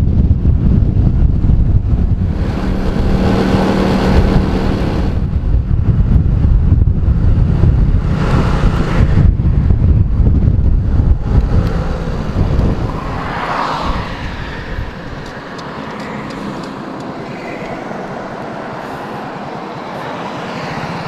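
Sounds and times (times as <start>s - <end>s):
motorcycle engine hum: 0.0s - 20.4s
wind buffeting microphone: 0.0s - 21.0s.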